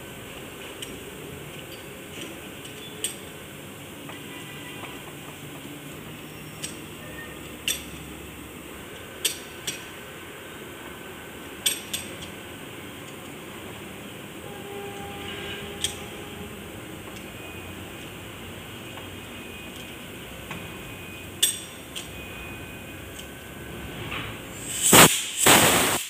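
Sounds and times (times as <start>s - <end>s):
steady low hum: 5.0s - 25.9s.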